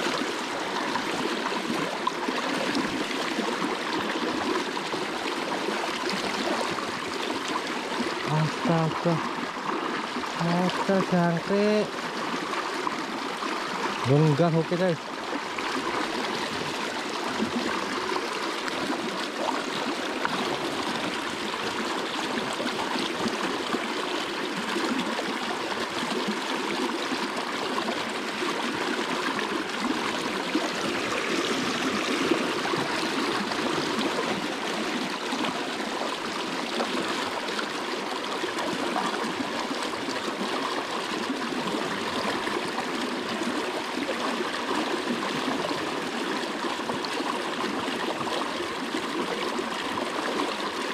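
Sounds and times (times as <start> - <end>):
river rushing and babbling: 0.0 - 50.9.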